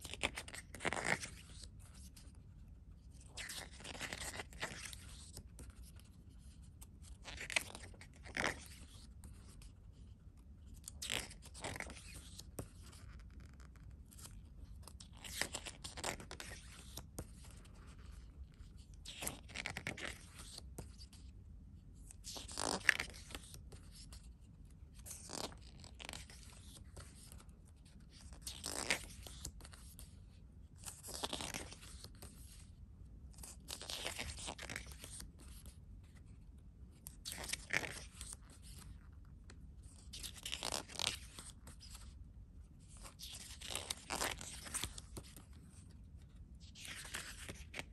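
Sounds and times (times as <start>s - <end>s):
booklet pages rustling: 3.0s - 10.0s, 10.7s - 21.3s, 22.1s - 32.7s, 33.3s - 42.2s, 42.8s - 47.9s.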